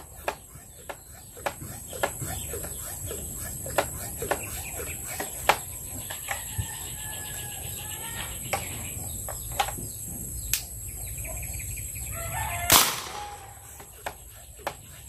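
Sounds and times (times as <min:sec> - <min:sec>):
birds chirping: 0:00.0 - 0:15.0
high insect drone: 0:00.0 - 0:15.0.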